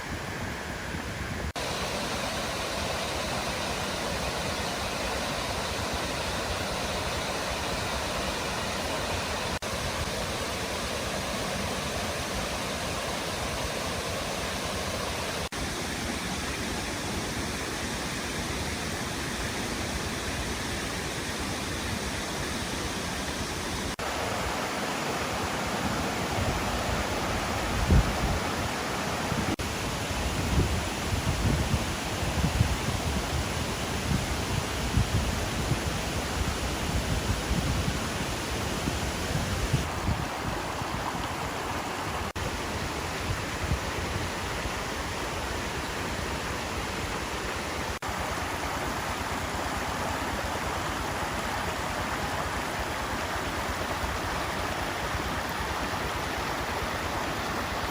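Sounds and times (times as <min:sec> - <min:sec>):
waterfall rushing: 0:01.5 - 0:57.9.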